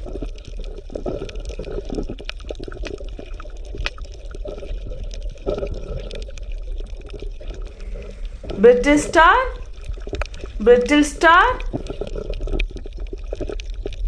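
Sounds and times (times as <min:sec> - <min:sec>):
bubbling gurgling water: 0:00.0 - 0:08.6, 0:09.5 - 0:10.6, 0:11.6 - 0:14.0
small clicks and crackles: 0:00.0 - 0:08.6, 0:09.6 - 0:10.6, 0:11.6 - 0:14.0.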